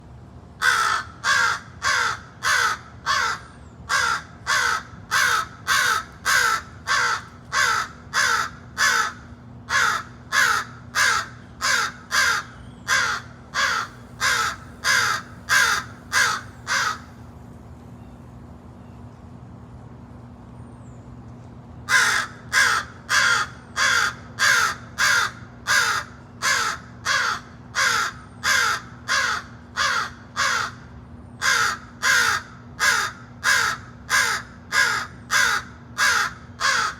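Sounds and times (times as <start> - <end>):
crow cawing: 0.6 - 17.2, 21.9 - 36.9.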